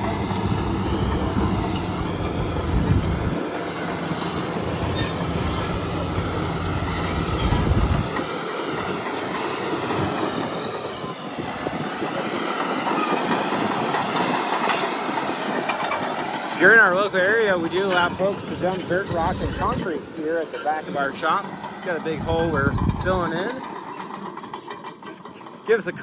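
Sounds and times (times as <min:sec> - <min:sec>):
crawler tracks squealing and clanking: 0:00.0 - 0:26.0
diesel engine rumble: 0:00.0 - 0:26.0.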